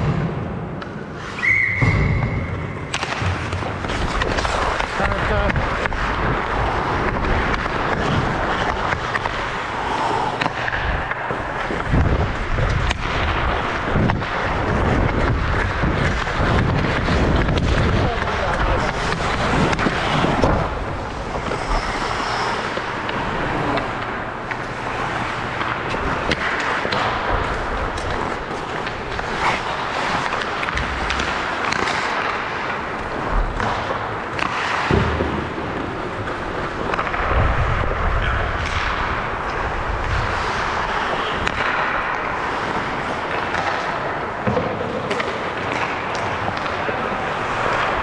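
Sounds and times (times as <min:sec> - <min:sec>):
hockey sticks and puck clacking: 0:00.0 - 0:48.0
skates scraping on ice: 0:00.8 - 0:48.0.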